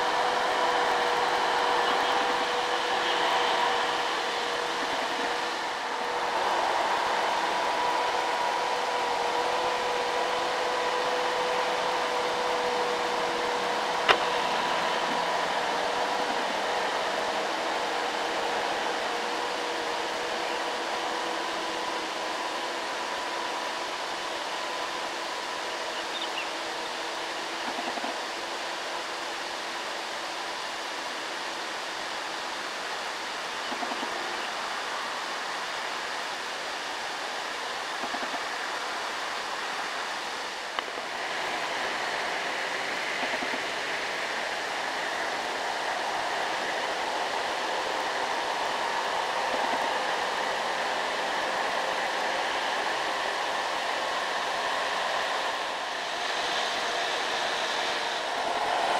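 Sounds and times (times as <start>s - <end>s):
distant diesel trucks labouring uphill: 0.0s - 58.9s
road and air hiss: 0.0s - 58.9s.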